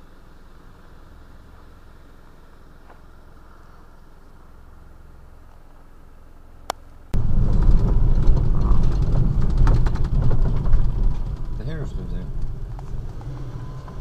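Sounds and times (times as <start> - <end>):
car interior hum: 0.0 - 14.0
road and wind rumble with rattling: 0.0 - 14.0.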